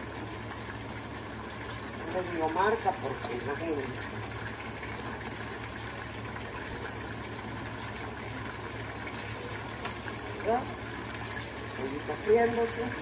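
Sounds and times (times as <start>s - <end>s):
chicken sizzling in hot oil: 0.0s - 13.0s
low steady hum: 0.0s - 13.0s.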